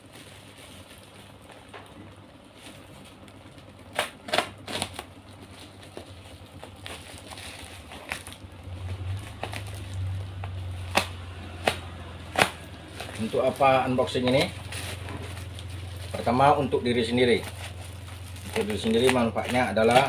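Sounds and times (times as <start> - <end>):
plastic wrapping crinkling: 0.0 - 1.7, 4.6 - 20.0.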